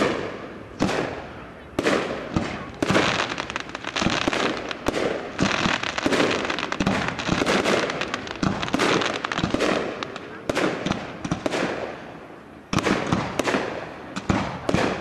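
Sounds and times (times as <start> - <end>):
fireworks bangs and popping: 0.0 - 15.0
fireworks crackling: 0.0 - 15.0.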